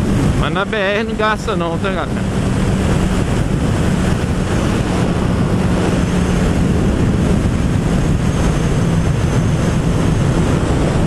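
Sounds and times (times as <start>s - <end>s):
motorcycle engine cruising: 0.0s - 11.0s
wind rushing over microphone: 0.0s - 11.0s.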